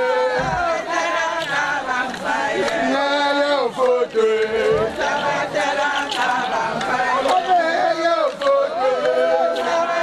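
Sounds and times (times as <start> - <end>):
voices singing and chanting: 0.0 - 10.0.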